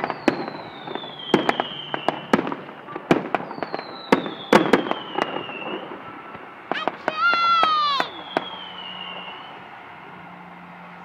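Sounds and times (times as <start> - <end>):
fireworks bangs and cracks: 0.0 - 10.7
fireworks falling whistles: 0.0 - 11.0.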